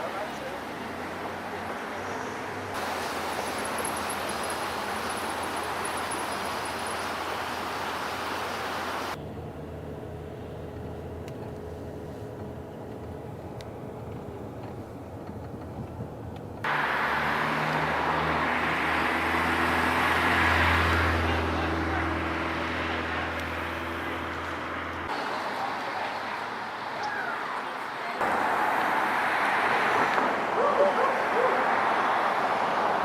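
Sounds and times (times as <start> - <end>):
road noise rushing: 0.0 - 33.0
vehicle engine hum: 0.0 - 33.0.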